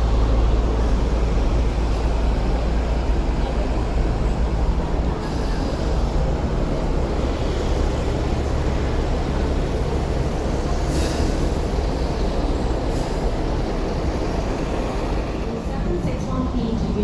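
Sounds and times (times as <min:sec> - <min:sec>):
low rumble of street noise: 0:00.0 - 0:17.0.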